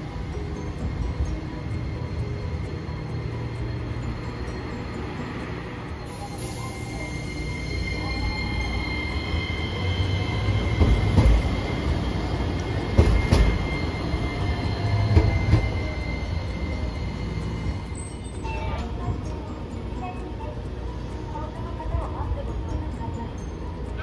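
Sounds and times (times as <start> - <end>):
tram rumbling past: 0.0 - 24.0.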